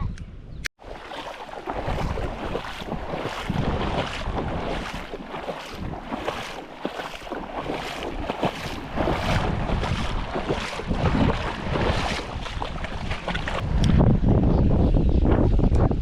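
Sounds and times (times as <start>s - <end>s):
wind buffeting microphone: 0.0s - 16.0s
river water splashing: 0.8s - 13.7s.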